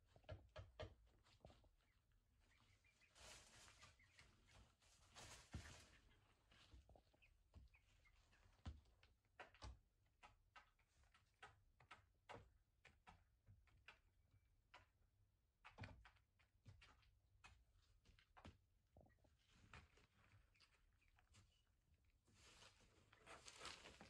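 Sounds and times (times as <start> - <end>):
chicks pecking and scratching: 0.0 - 24.0.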